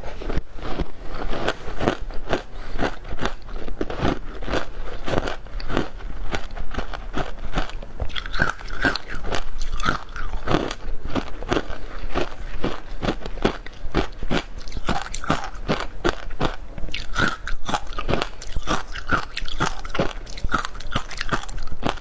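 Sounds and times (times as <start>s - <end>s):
crunching shaved ice: 0.7s - 22.0s.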